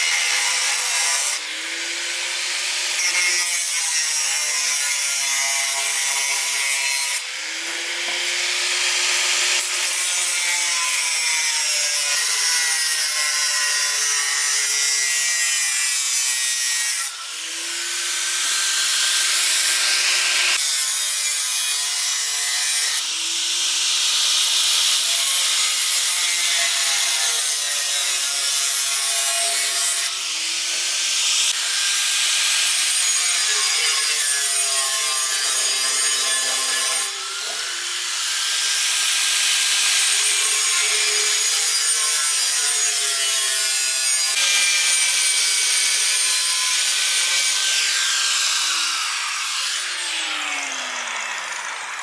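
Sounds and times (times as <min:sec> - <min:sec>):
angle grinder cutting iron: 0:00.0 - 0:52.0.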